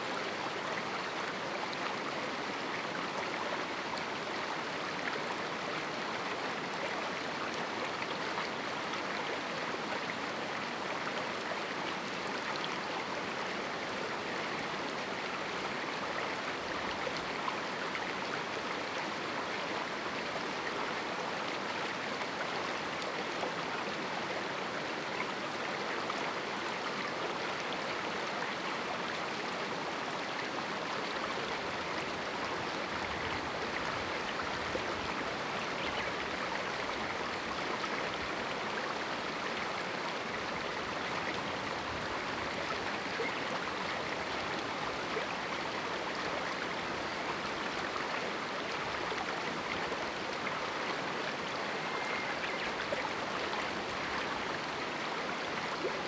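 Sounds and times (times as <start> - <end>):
river flowing water rush: 0.0 - 56.0.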